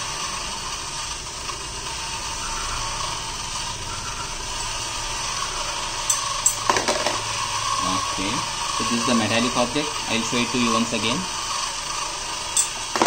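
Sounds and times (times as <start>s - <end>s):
conveyor motors whirring: 0.0s - 13.0s.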